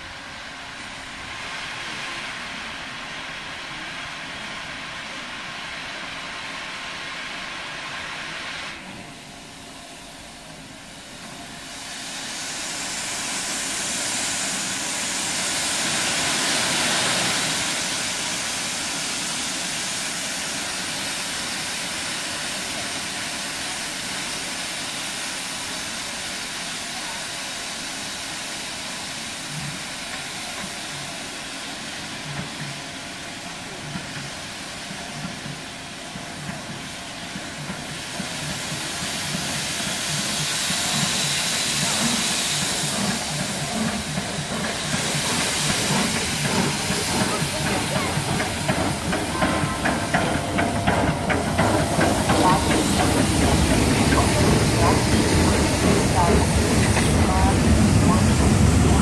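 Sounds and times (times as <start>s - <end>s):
steam locomotive venting steam: 0.0s - 59.0s.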